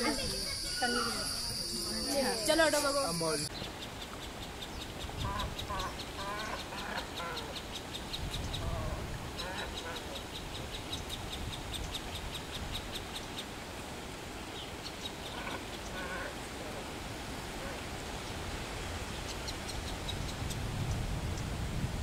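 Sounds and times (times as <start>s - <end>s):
low outdoor background noise: 0.0s - 22.0s.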